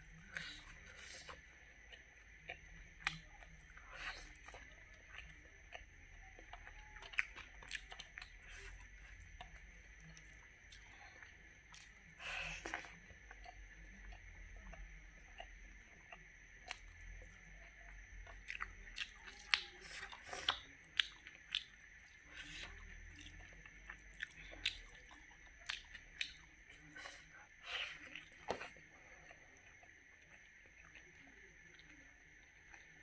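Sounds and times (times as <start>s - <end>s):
close-up crunchy chewing: 0.0s - 33.0s.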